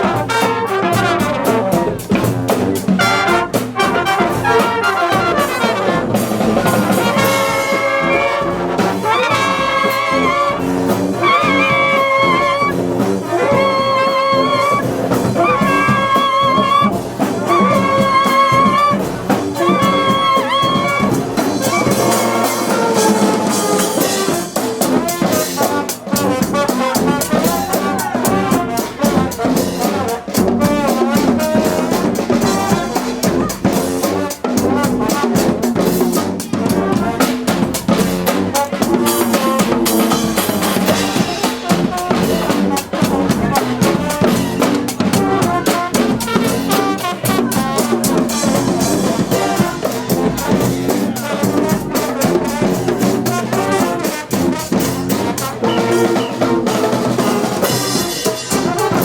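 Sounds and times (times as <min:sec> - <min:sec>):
brass marching band playing: 0:00.0 - 0:59.0
drum kit groove: 0:00.0 - 0:59.0.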